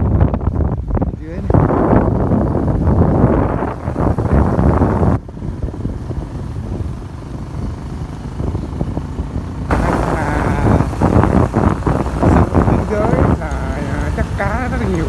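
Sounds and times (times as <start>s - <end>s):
wind buffeting microphone: 0.0s - 15.0s
motorbike engine running: 1.2s - 15.0s.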